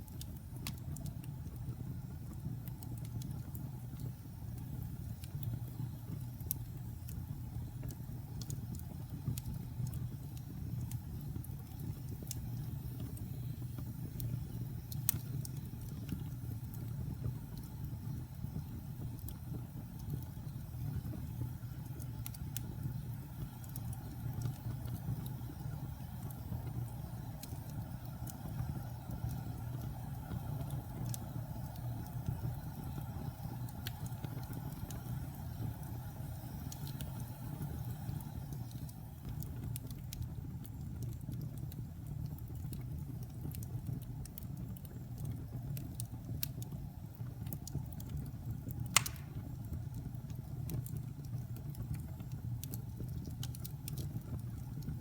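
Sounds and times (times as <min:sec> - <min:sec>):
wood fire burning: 0:00.0 - 0:55.0.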